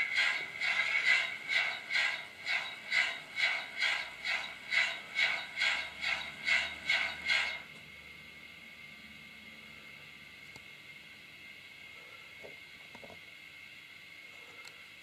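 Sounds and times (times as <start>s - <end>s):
model locomotive steam chuffs: 0.0s - 12.4s
faint hum: 0.0s - 15.0s.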